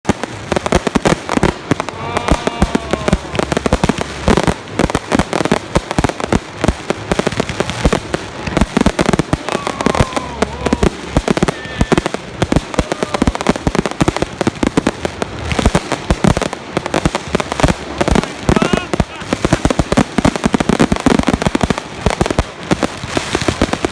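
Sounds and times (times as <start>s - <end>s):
fireworks bursting: 0.0s - 23.9s.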